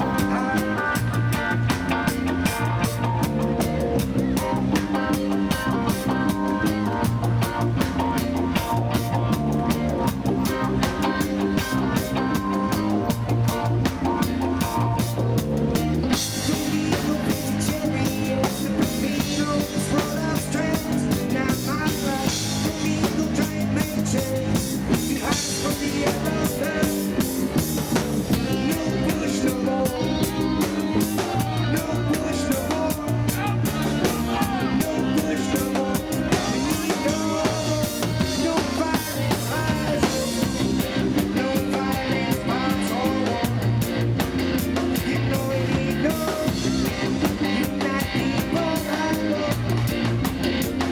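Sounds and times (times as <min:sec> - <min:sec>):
drum kit and bass groove: 0:00.0 - 0:50.9
guitar: 0:00.0 - 0:50.9
reggae band playing live: 0:00.0 - 0:50.9.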